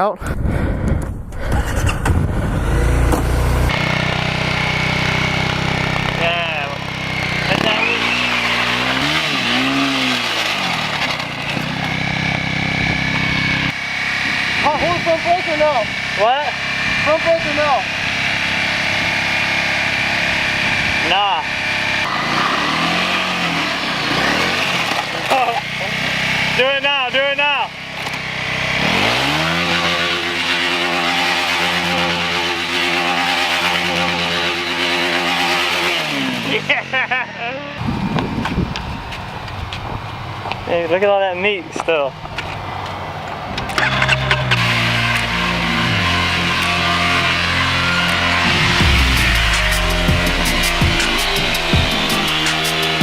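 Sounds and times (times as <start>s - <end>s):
motorcycle engine revving: 1.0s - 53.0s.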